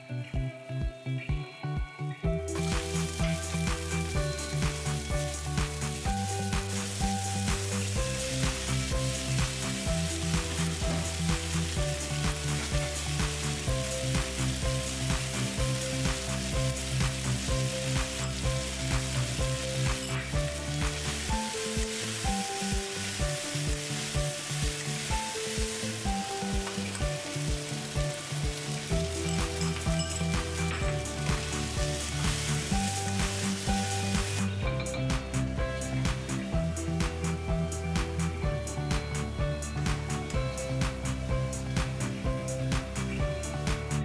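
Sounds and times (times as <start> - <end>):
background music with steady beat: 0.0 - 44.0
food sizzling in a wok: 2.3 - 44.0.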